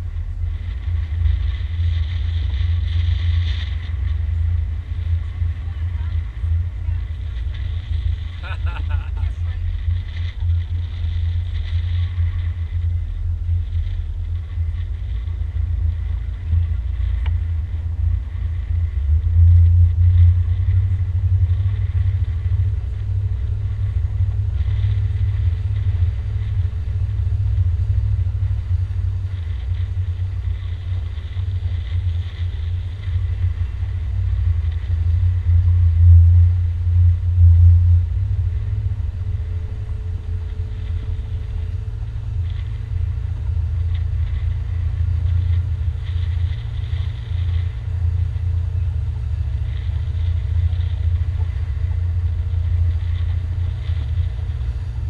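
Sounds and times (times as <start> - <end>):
boat engine rumble: 0.0 - 55.0.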